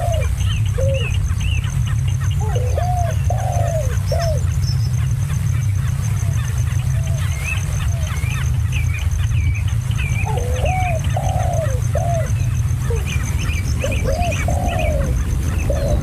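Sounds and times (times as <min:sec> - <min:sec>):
lower arched bird calls: 0:00.0 - 0:16.0
steady low rumble: 0:00.0 - 0:16.0.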